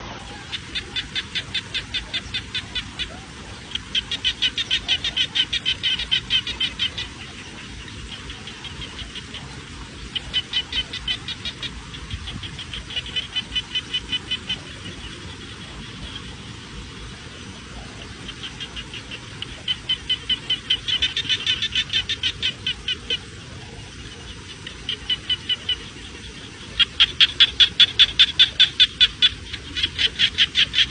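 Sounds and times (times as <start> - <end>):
outdoor background noise: 0.0 - 30.9.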